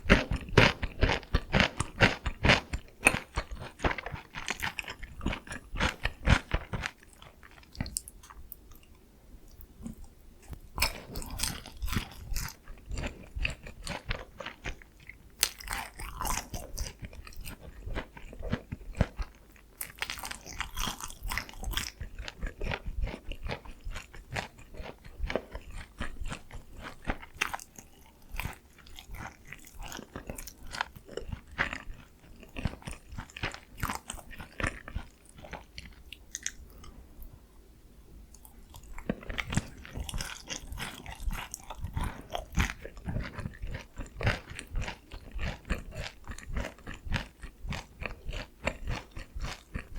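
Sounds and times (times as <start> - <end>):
crunchy biting and chewing: 0.0 - 8.9, 9.8 - 37.0, 38.3 - 49.9
wet chewing: 0.0 - 37.0, 38.3 - 49.9.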